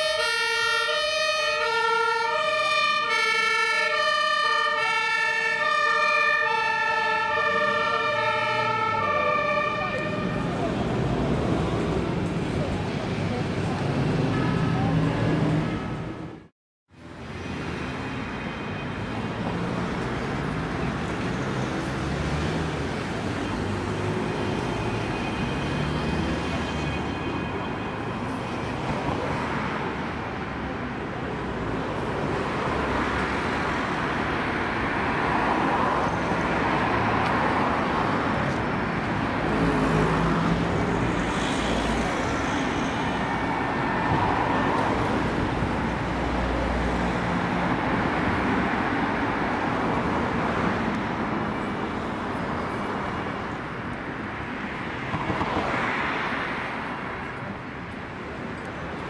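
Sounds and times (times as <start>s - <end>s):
cars passing and idling: 0.0s - 59.0s.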